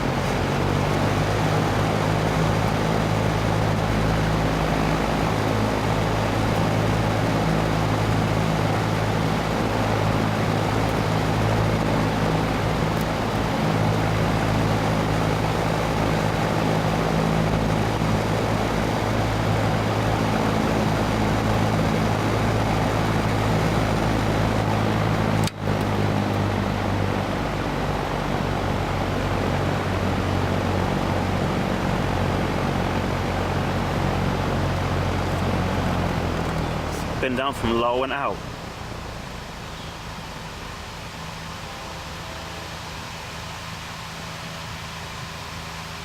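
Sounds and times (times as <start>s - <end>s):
electric fan running: 0.0s - 46.0s.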